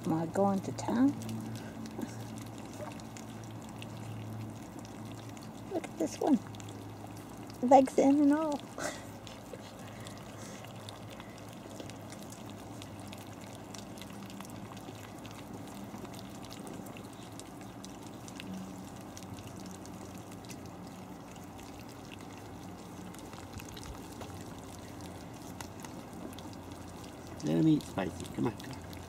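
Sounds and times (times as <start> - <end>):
puppies eating wet smacking: 0.0 - 29.0.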